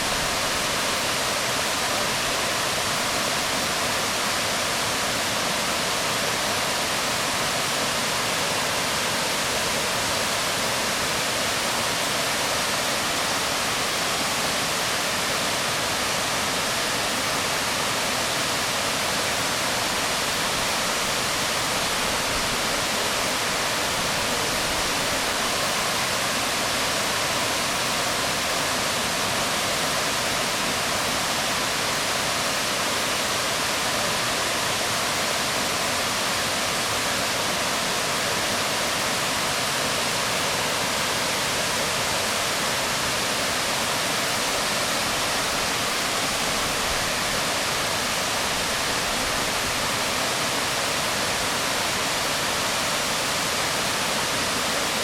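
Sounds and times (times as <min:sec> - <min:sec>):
waterfall falling onto rocks: 0:00.0 - 0:55.0.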